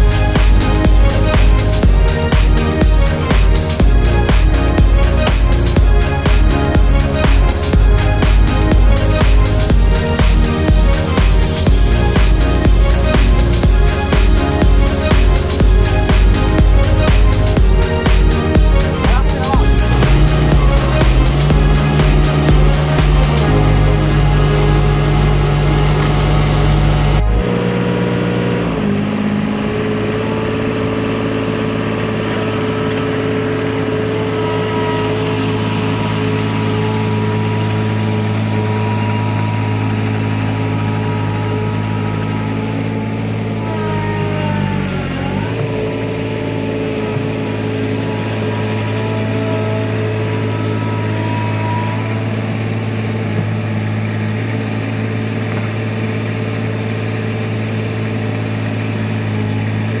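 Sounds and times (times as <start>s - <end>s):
loader engine running: 0.0s - 60.0s.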